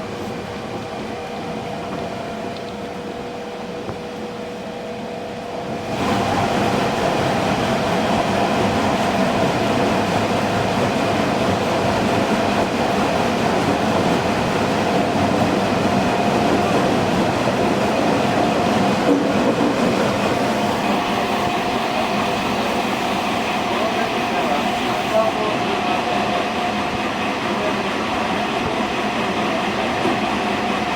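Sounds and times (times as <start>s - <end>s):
held train tones: 0.0s - 30.9s
train wheels rumbling on rail: 0.0s - 30.9s.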